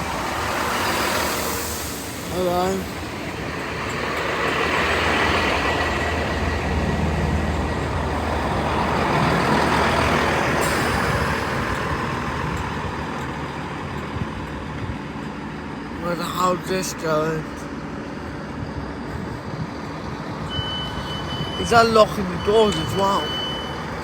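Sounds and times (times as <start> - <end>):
train engines and wheels: 0.0 - 24.0.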